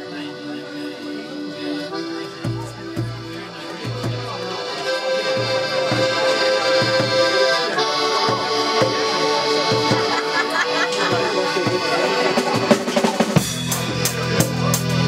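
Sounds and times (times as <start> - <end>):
tuba bass notes: 1.2 - 15.0.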